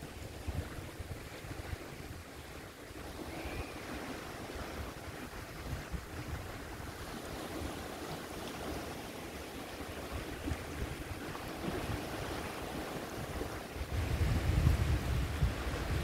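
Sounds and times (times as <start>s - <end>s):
wind buffeting microphone: 0.0s - 7.8s, 10.0s - 16.0s
small waves lapping: 0.0s - 16.0s.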